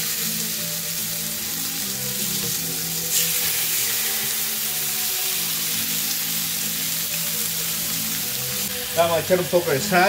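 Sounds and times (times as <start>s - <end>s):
meat sizzling in hot oil: 0.0s - 10.0s.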